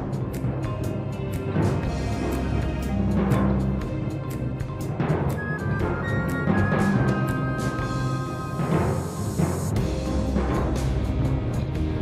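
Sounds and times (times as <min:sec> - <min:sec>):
fast drum beat: 0:00.0 - 0:12.0.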